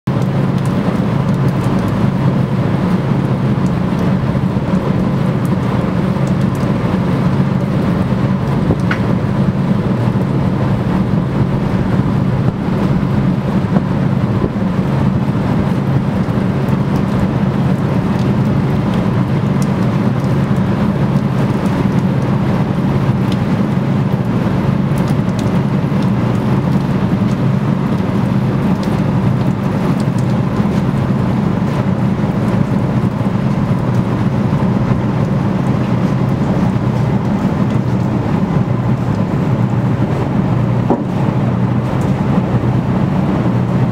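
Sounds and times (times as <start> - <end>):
motor boat engine: 0.1 - 43.9.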